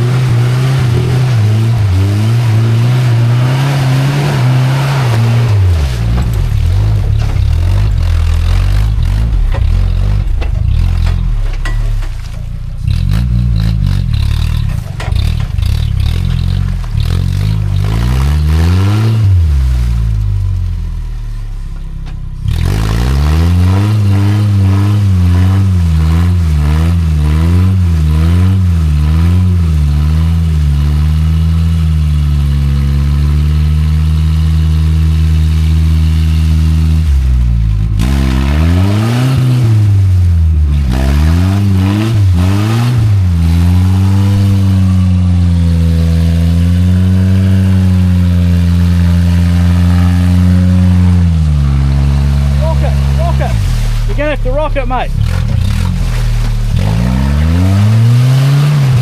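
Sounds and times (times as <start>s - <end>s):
car engine revving hard: 0.0s - 11.6s, 12.8s - 59.0s
clatter and scraping: 0.0s - 30.7s, 35.3s - 59.0s.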